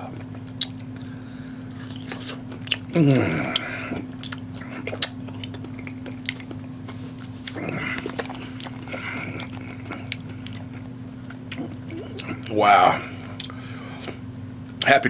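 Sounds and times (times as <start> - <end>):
man chewing tomato: 0.0 - 14.3
steady low hum: 0.0 - 15.0.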